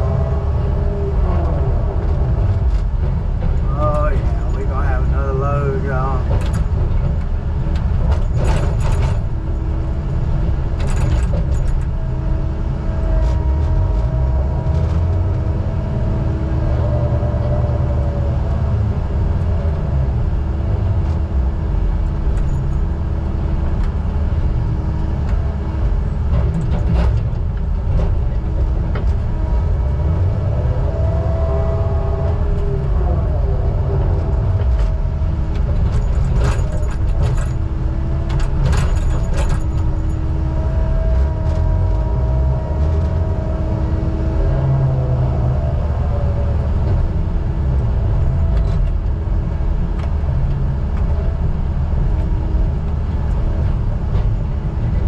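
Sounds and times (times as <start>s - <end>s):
engine rumbling: 0.0s - 55.0s.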